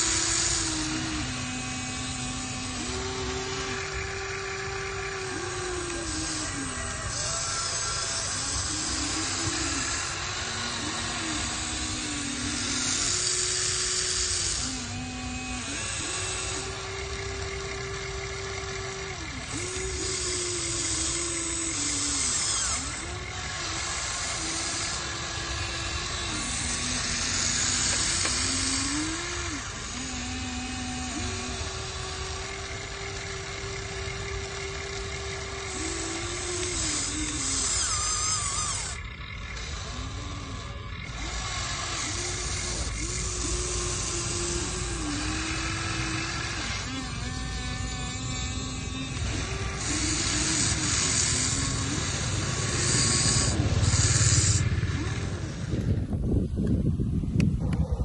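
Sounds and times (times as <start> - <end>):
high grinding hiss: 0.0 - 58.0
low hum: 0.0 - 58.0
small electric motors whining: 0.0 - 58.0.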